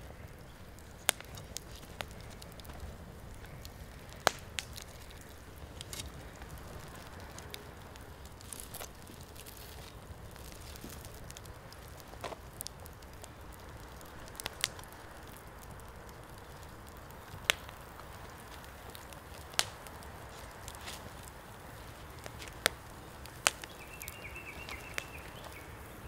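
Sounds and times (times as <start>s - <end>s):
sharp pops of fire: 0.0s - 26.0s
wood fire crackling: 0.0s - 26.0s.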